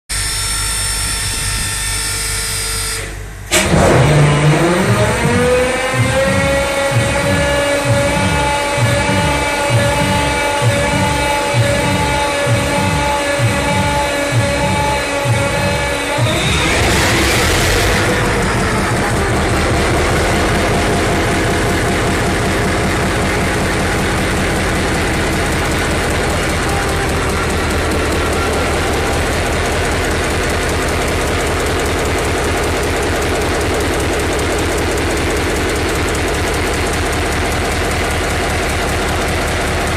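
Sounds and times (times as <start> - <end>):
diesel locomotive engine starting: 0.1 - 39.9
engine clack: 3.5 - 39.9.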